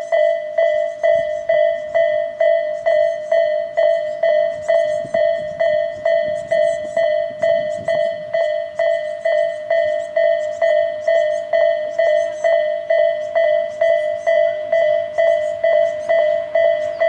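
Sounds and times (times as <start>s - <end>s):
level crossing electronic alarm: 0.0s - 17.0s.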